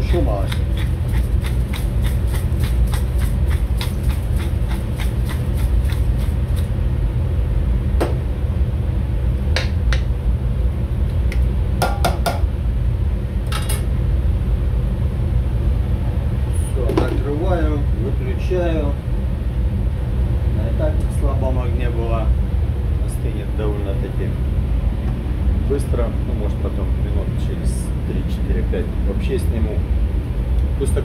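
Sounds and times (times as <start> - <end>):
low machinery hum: 0.0 - 31.0.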